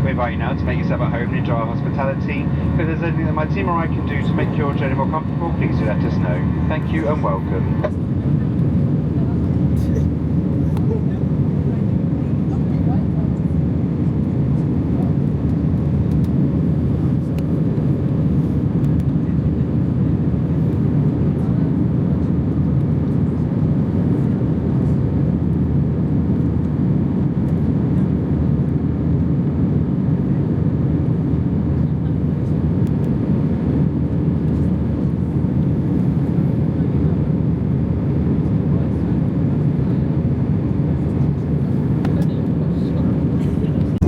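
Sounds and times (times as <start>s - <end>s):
airliner cabin noise: 0.0s - 44.0s.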